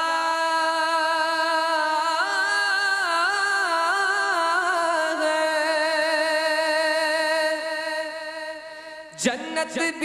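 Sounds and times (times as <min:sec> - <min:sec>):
man singing devotional song: 0:00.0 - 0:10.0.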